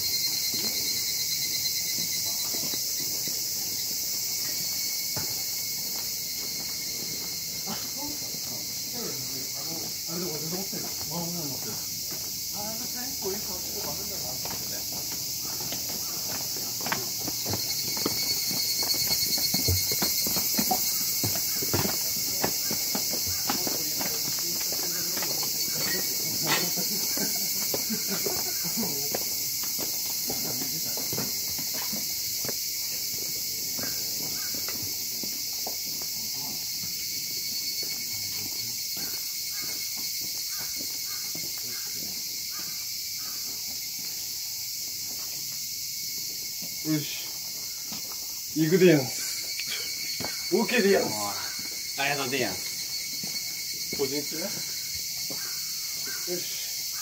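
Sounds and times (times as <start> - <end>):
high-pitched insect chorus: 0.0 - 57.0
footsteps on hard path: 0.1 - 48.6, 49.3 - 57.0.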